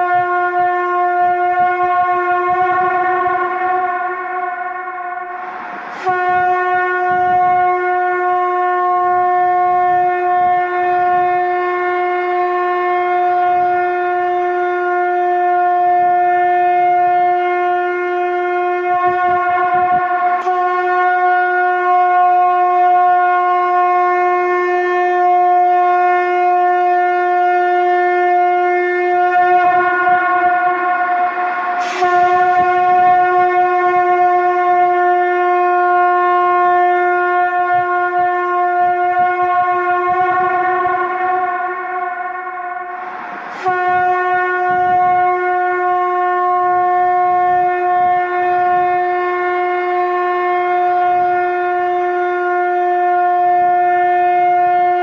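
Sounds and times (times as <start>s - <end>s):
conch shell blasts: 0.0s - 55.0s.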